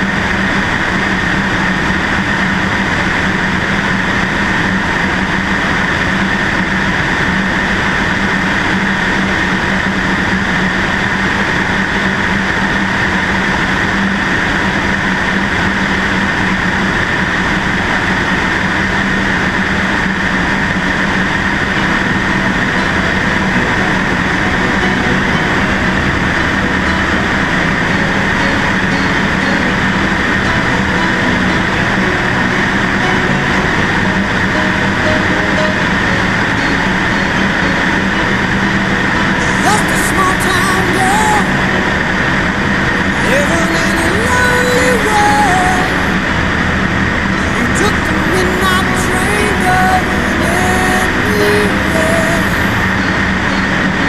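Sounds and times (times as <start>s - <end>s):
airplane engine and propeller: 0.0s - 39.7s, 41.4s - 44.5s, 45.9s - 49.0s.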